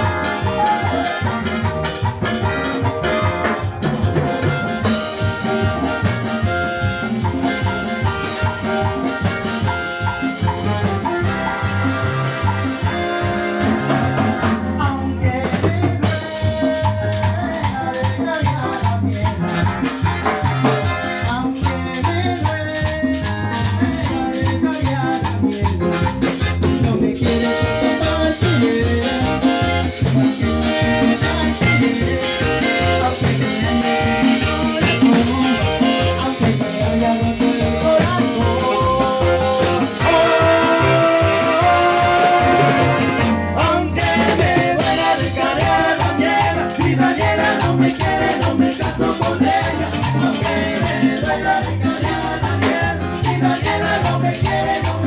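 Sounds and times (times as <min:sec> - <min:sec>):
drum kit beat: 0:00.0 - 0:14.8, 0:15.4 - 0:55.0
brass playing: 0:00.0 - 0:15.2, 0:19.1 - 0:54.8
voices singing: 0:00.0 - 0:55.0.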